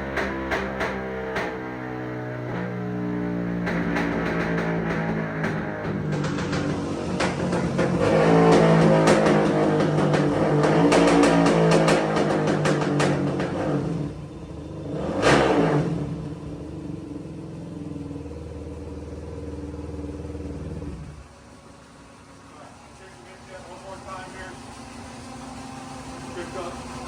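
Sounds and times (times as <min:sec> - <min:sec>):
motorcycle engine revving on dyno: 0:00.0 - 0:21.2, 0:23.3 - 0:27.0.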